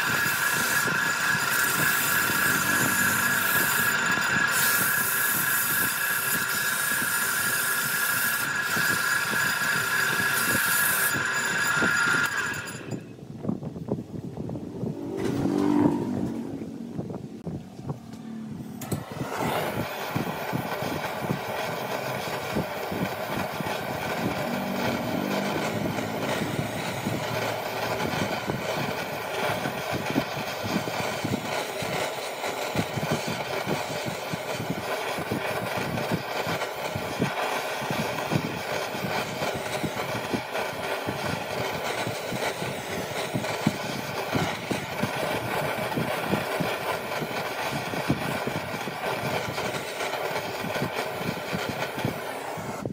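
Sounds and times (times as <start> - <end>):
wood lathe motor whine: 0.0 - 13.2, 14.8 - 52.9.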